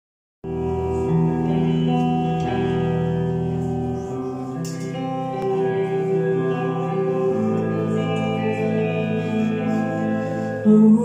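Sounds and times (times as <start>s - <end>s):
rock band playing: 0.4s - 10.8s
amplified guitar chords: 0.4s - 11.0s.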